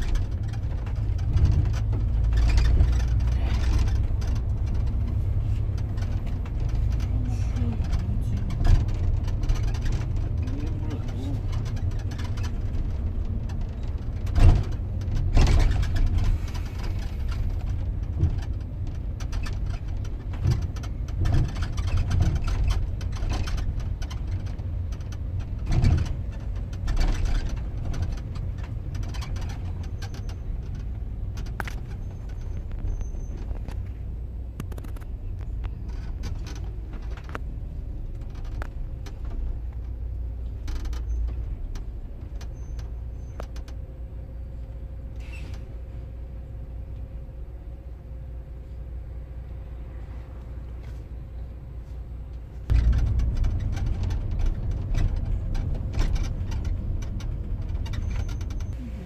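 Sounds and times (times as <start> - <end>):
bus body knocks and rattles: 0.0 - 45.9, 52.2 - 58.8
bus engine and road rumble: 0.0 - 59.0.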